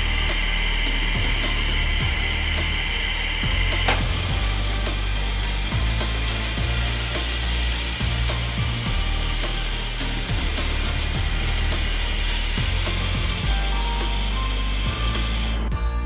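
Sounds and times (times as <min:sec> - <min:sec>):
steady high hiss: 0:00.0 - 0:15.7
music with low drum beat: 0:00.0 - 0:16.0.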